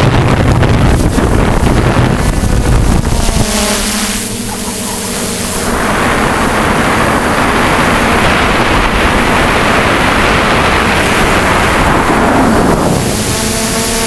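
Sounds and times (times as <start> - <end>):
motors humming: 0.0 - 14.0
propeller wash and wind rush: 0.0 - 14.0.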